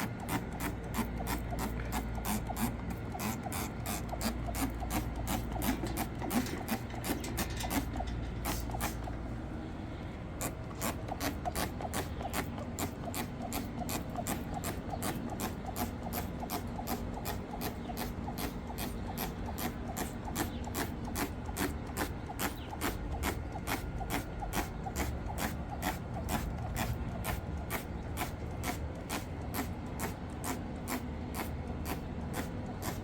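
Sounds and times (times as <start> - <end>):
stiff brush scrubbing: 0.0 - 9.1, 10.4 - 33.0.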